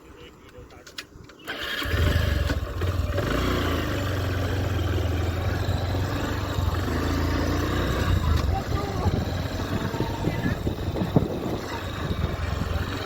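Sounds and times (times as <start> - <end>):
vehicle engine humming: 1.5 - 13.0.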